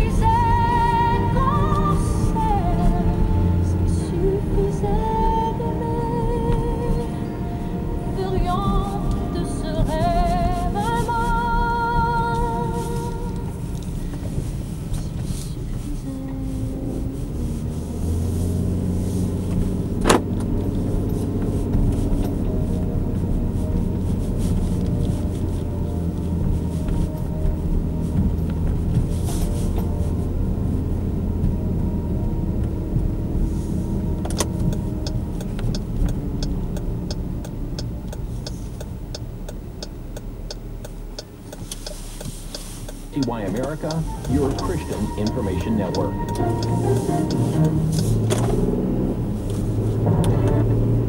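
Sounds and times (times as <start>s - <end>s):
car engine and road hum: 0.0s - 51.0s
turn signal ticking: 0.0s - 51.0s.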